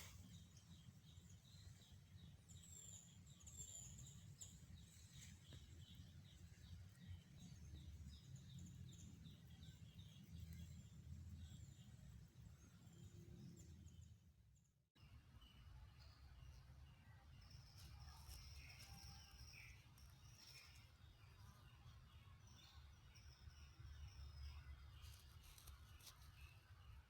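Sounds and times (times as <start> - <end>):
small bird chirping: 0.0 - 12.0, 16.0 - 26.9.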